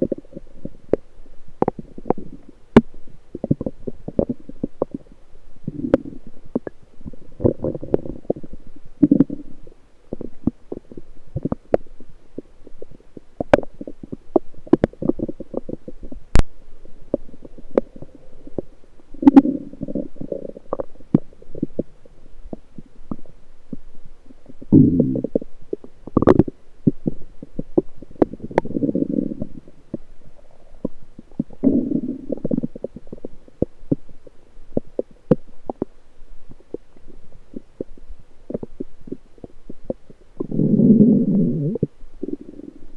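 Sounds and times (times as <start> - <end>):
bowel gurgling and rumbling: 3.3 - 35.9, 36.5 - 42.9.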